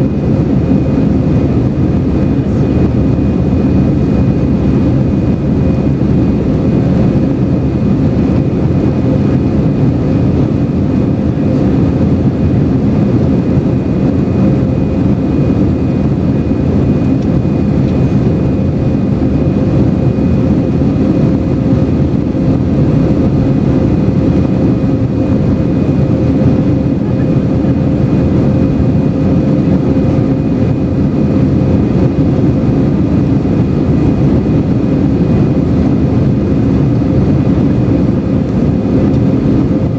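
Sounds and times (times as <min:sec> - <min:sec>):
jet engines in aircraft cabin: 0:00.0 - 0:39.9.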